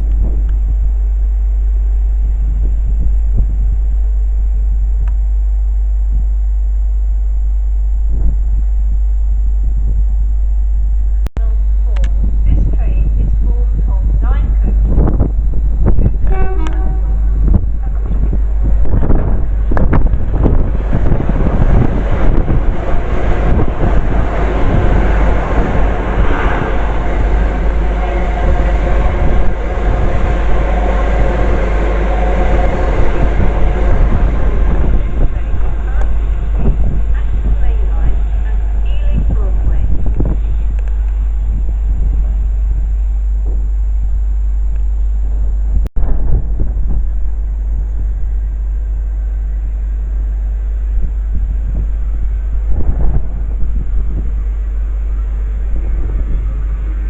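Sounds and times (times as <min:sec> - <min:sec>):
wind buffeting microphone: 0:00.0 - 0:05.4, 0:07.8 - 0:10.4, 0:11.3 - 0:57.0
train rumbling: 0:00.0 - 0:06.1, 0:07.8 - 0:57.0
hum of steady tones: 0:00.0 - 0:57.0.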